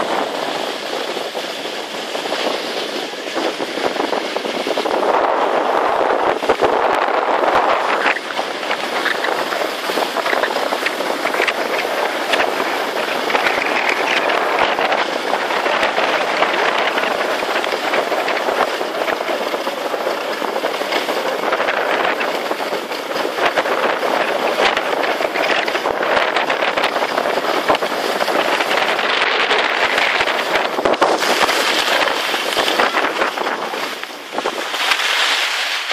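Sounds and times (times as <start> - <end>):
skis scraping over hard snow: 0.0 - 35.9.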